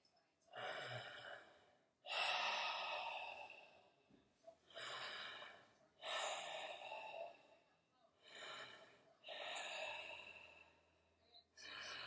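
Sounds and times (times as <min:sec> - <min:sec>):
person breathing heavily: 0:00.5 - 0:12.0.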